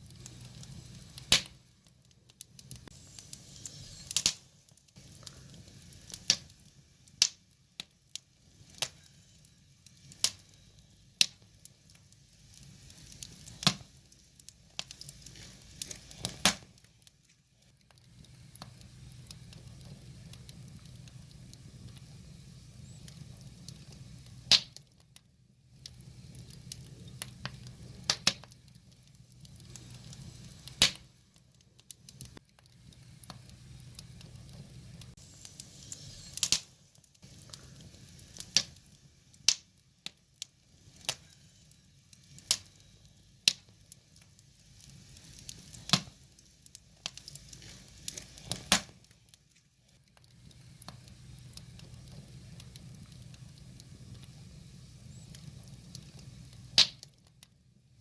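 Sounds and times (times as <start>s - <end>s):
soft fire hiss: 0.0s - 58.0s
wood fire crackling and popping: 0.0s - 58.0s.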